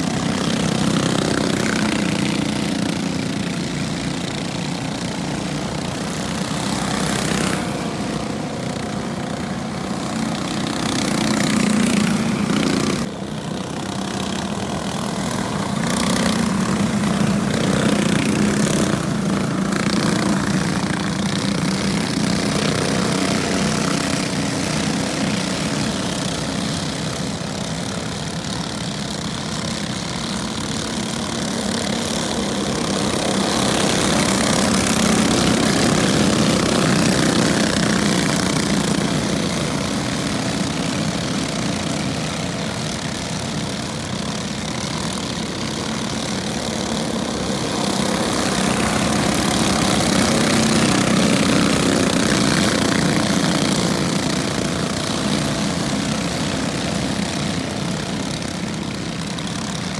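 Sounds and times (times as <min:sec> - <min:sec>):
small race car engines buzzing: 0:00.0 - 0:59.9.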